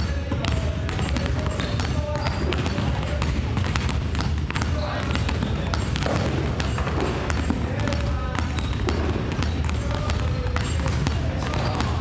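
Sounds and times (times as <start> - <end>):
basketballs bouncing on wooden floor: 0.0 - 12.0.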